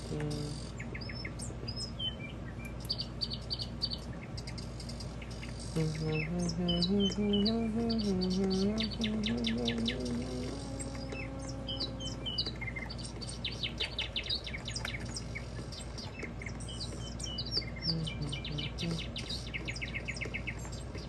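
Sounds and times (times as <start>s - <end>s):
birds chirping and trilling: 0.0s - 21.0s
low steady hum: 0.0s - 21.0s.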